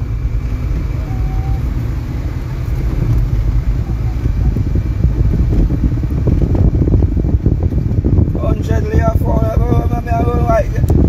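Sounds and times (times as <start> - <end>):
car cabin road rumble: 0.0 - 11.0
wind buffeting microphone: 0.0 - 11.0.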